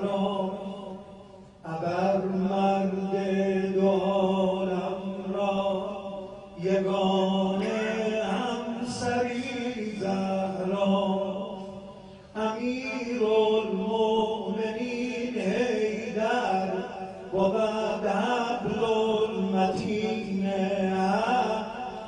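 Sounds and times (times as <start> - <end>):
man chanting into a microphone: 0.0 - 22.0.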